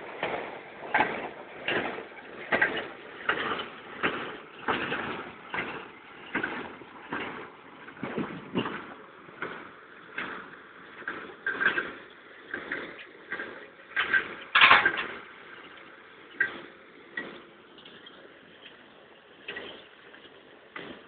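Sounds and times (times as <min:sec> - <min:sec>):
towed machine clanking and rattling: 0:00.0 - 0:21.0.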